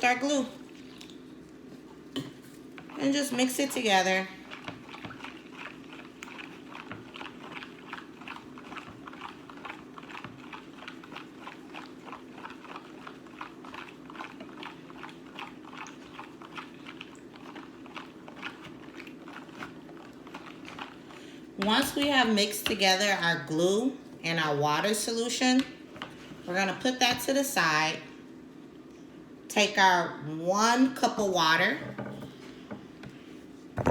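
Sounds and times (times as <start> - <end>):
utensil stirring in a bowl: 0.0 - 27.3.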